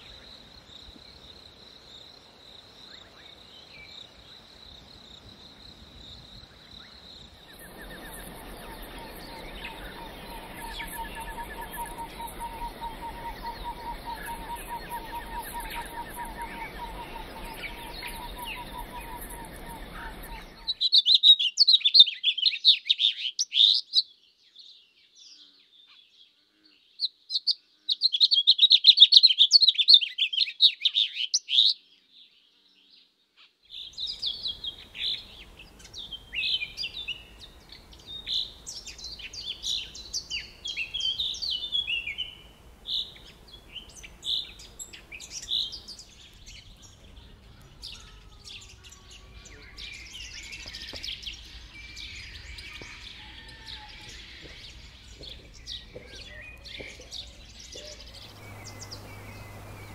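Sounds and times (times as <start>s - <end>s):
songbirds twittering: 0.0s - 33.1s, 33.7s - 59.9s
faint background noise: 0.0s - 59.9s
whistled and warbled birdsong: 6.1s - 59.9s.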